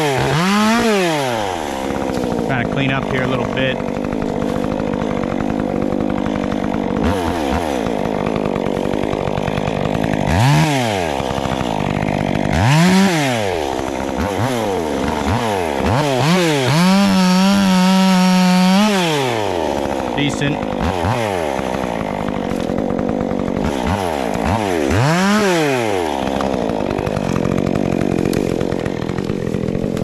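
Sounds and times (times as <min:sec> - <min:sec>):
chainsaw idling and revving: 0:00.0 - 0:30.0.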